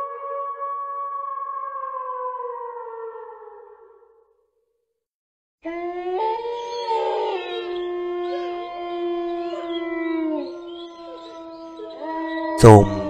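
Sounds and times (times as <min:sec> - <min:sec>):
dogs howling: 0:00.0 - 0:04.1, 0:05.6 - 0:12.6.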